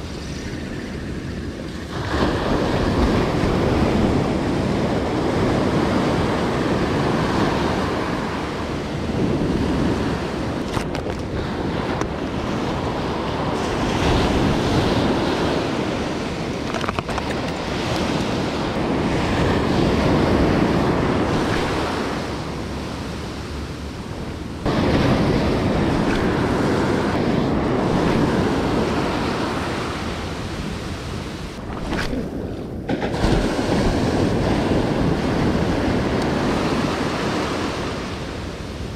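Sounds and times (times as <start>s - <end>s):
waves breaking on beach: 0.0s - 38.9s
wind on microphone: 0.0s - 38.9s.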